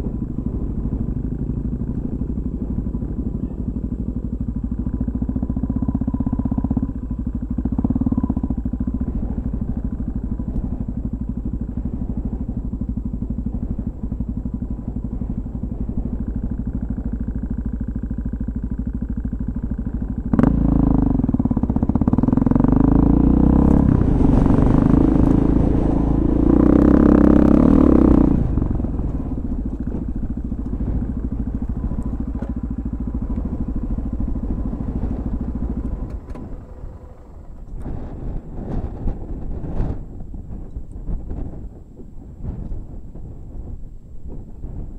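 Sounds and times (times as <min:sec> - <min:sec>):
dirt motorcycle engine running: 0:00.0 - 0:44.9.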